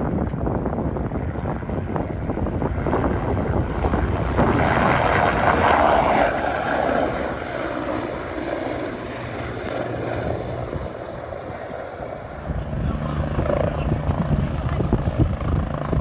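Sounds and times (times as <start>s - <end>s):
helicopter rotor and turbine: 0.0s - 16.0s.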